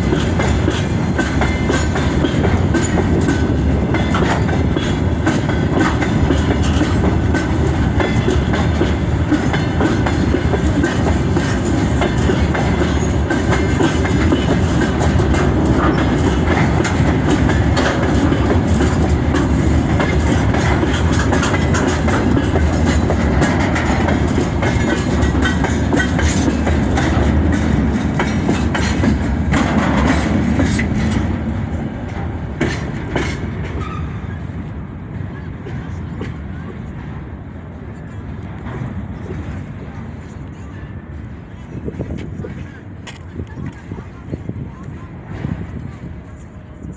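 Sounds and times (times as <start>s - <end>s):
freight train wheels clattering: 0.0s - 46.9s.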